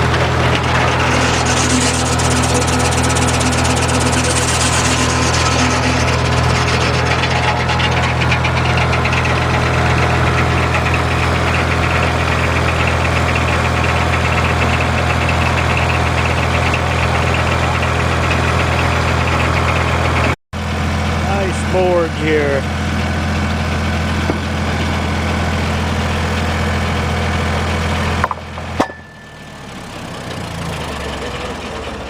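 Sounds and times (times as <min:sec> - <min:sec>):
sawmill engine running: 0:00.0 - 0:32.0.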